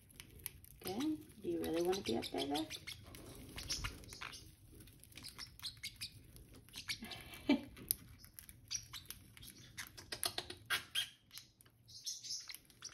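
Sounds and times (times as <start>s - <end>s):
beaks clicking on seeds: 0.0s - 12.9s
baby birds chirping: 0.8s - 12.9s.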